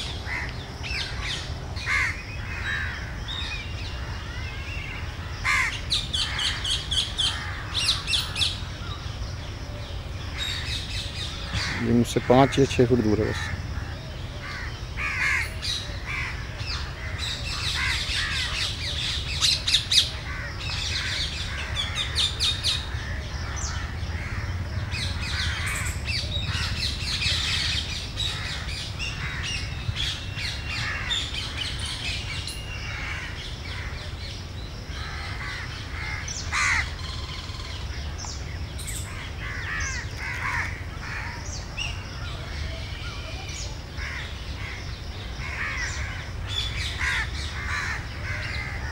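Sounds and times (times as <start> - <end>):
birds calling and chirping: 0.0 - 48.9.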